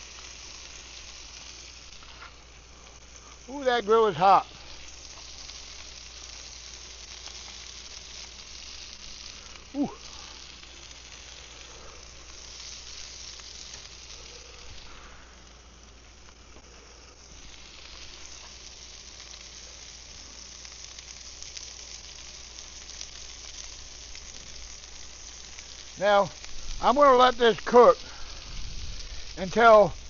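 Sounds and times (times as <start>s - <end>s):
fish steak sizzling on grill: 0.0s - 30.0s.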